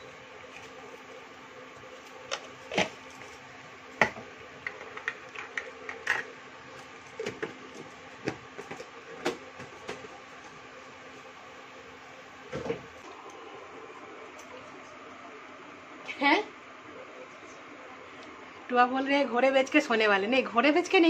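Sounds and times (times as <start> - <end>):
steady hum: 0.0 - 21.0
water boiling in pot: 0.0 - 21.0.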